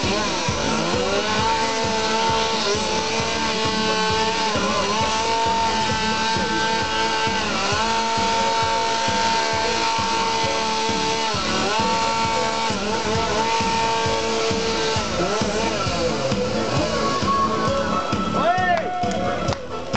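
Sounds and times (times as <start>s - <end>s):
chainsaw carving ice: 0.0s - 19.9s.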